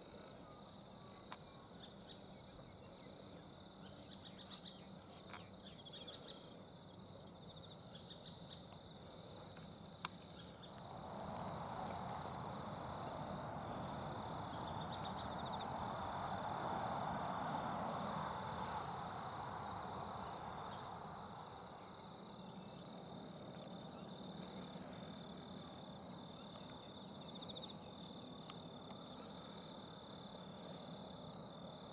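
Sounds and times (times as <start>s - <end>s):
high insect drone: 0.0s - 31.9s.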